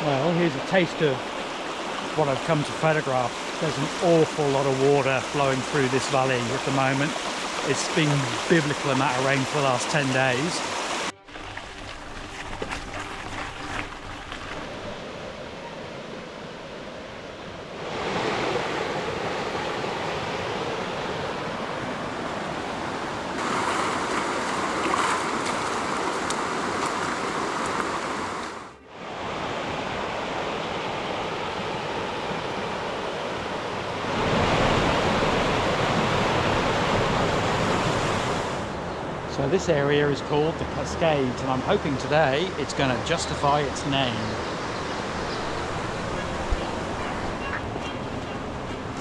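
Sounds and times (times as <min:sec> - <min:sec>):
creek water rushing over rocks: 0:00.0 - 0:38.8, 0:39.7 - 0:49.0.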